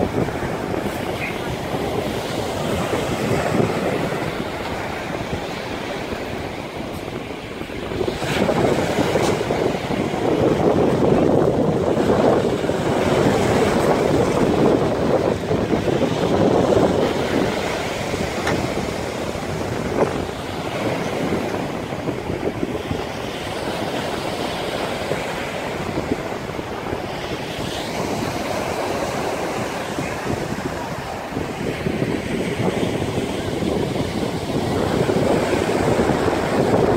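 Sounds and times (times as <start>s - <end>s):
rushing sea water: 0.0s - 36.9s
wind buffeting microphone: 0.0s - 36.9s.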